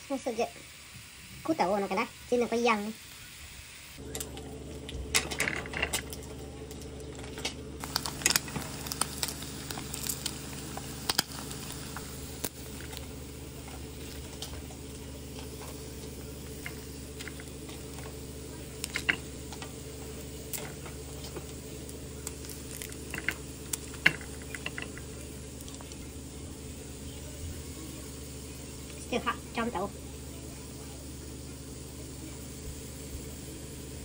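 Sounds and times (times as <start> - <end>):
steady low hum: 0.0 - 34.0
oil crackling and popping: 4.0 - 34.0.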